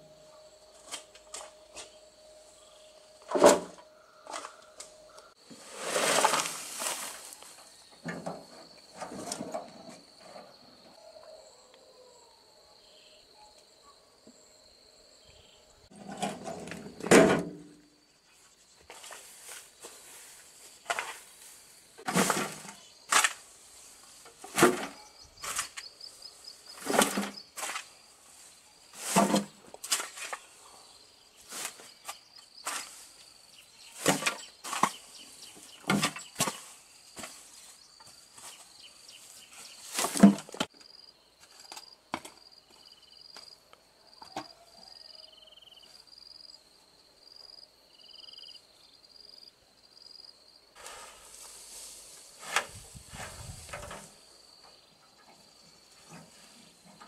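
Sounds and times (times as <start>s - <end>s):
insects trilling: 0.0s - 17.1s, 17.7s - 57.0s.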